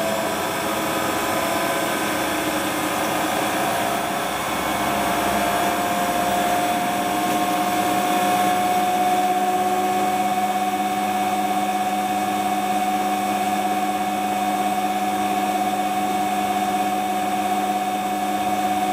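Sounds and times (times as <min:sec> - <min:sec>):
washing machine drum spinning: 0:00.0 - 0:18.9.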